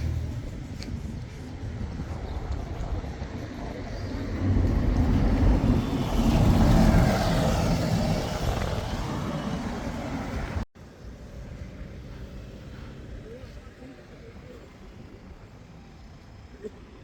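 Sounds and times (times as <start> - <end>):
road vehicle noise: 0.0 - 17.0.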